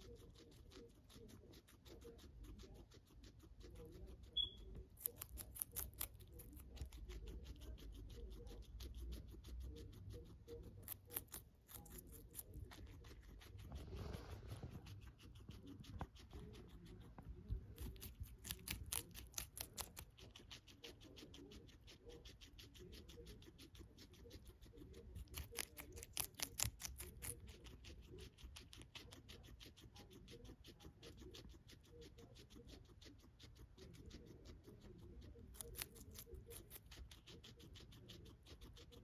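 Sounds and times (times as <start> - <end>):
guinea pig chewing celery: 0.0 - 39.0.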